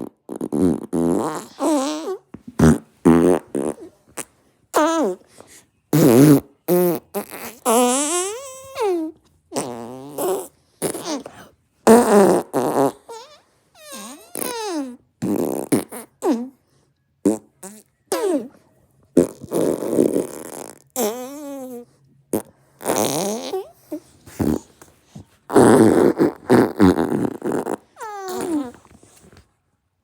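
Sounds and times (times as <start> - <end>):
fart sound effects: 0.0 - 5.2, 5.9 - 16.5, 17.2 - 18.5, 19.2 - 24.8, 25.5 - 28.9.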